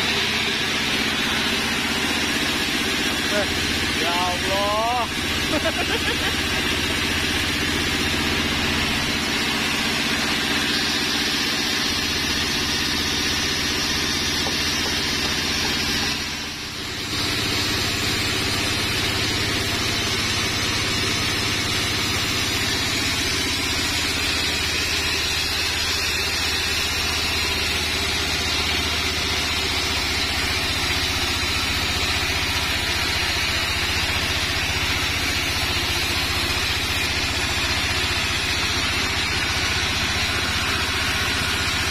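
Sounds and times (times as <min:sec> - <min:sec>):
band sawmill drone: 0:00.0 - 0:41.9
saw blade cutting log: 0:00.0 - 0:41.9.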